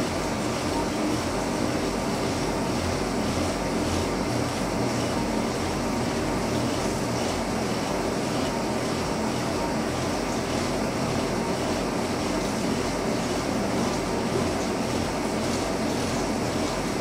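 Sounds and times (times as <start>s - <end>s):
boring mill running: 0.0s - 17.0s.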